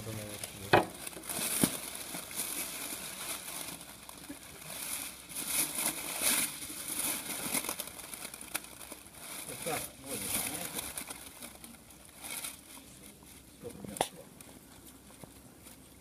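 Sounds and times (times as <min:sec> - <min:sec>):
liquid nitrogen boiling hiss: 0:00.0 - 0:16.0
plastic bag crinkling: 0:00.0 - 0:16.0.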